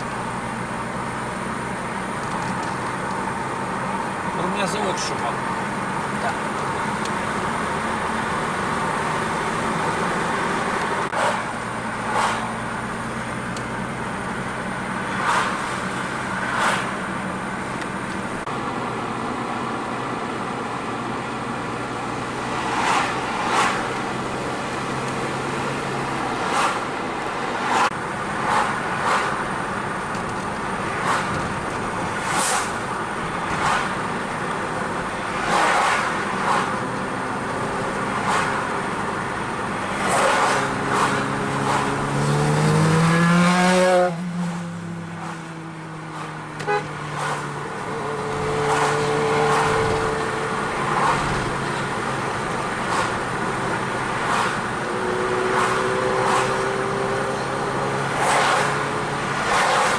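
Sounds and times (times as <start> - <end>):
car engine hum: 0.0 - 59.9.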